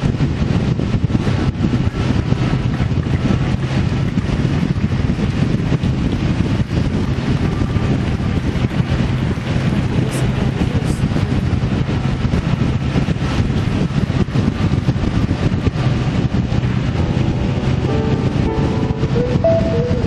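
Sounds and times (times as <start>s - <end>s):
wind on microphone: 0.0s - 20.0s
vehicle engine running: 0.1s - 20.0s.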